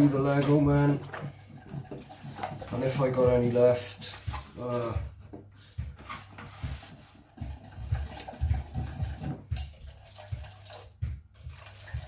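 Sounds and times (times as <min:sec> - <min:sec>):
plaster slurry mixed in bowl: 0:00.0 - 0:12.0
soft knocks and scrapes: 0:00.0 - 0:12.0.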